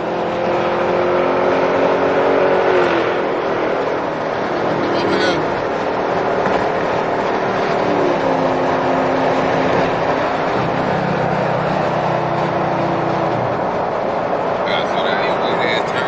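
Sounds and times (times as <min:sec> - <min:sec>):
car engine running: 0:00.0 - 0:16.0
loud rushing noise: 0:00.3 - 0:16.0.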